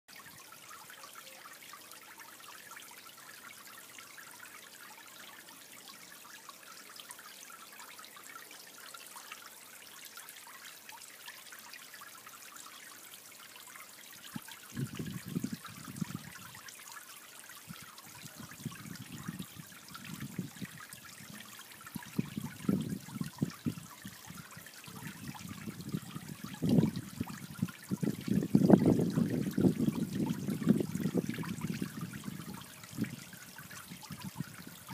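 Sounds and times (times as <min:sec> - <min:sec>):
pond water trickling: 0:00.1 - 0:34.9.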